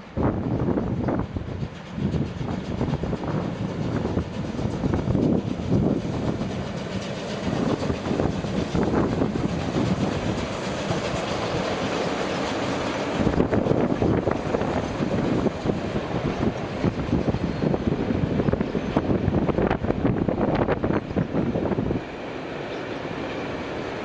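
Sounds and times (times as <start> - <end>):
steam locomotive exhaust: 0.0 - 22.3
train wheels on rails: 0.0 - 24.0.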